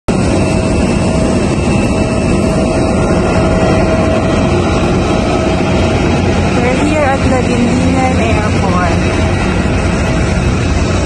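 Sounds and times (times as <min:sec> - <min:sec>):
jet engine rumble: 0:00.1 - 0:11.0
jet engine whine: 0:00.1 - 0:11.0.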